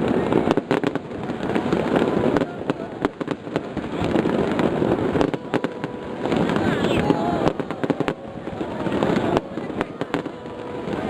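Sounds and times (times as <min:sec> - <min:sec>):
fireworks bangs and crackles: 0:00.0 - 0:11.0
rumbling fireworks bursts: 0:00.0 - 0:11.0.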